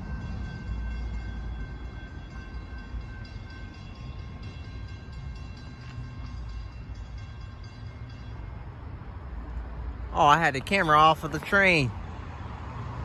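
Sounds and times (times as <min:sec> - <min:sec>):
distant freight train rumble: 0:00.0 - 0:13.0.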